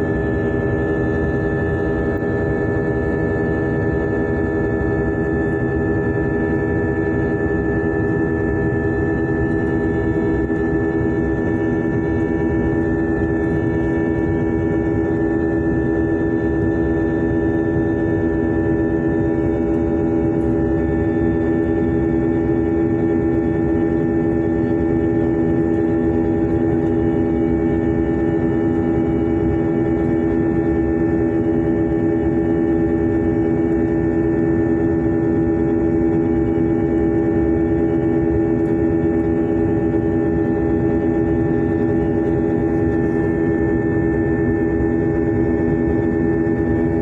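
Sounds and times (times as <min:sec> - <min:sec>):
jet engine cabin drone: 0:00.0 - 0:47.0.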